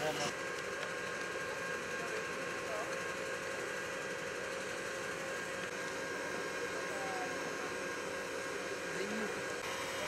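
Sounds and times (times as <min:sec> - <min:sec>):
constant whine: 0:00.0 - 0:10.0
machinery hum and hiss: 0:00.0 - 0:10.0.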